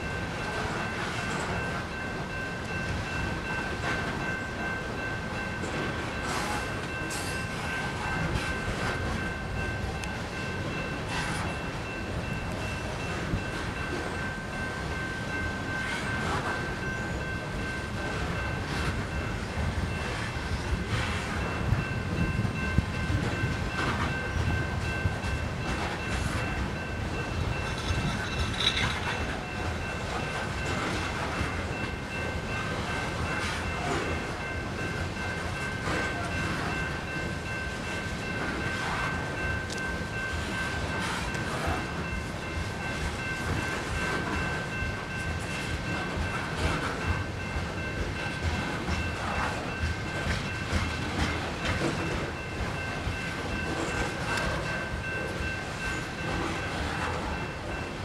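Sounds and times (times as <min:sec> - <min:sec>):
crossing bell ringing: 0:00.0 - 0:58.0
freight train rumbling: 0:00.0 - 0:58.0
wheel clacks on rail joints: 0:00.0 - 0:58.0.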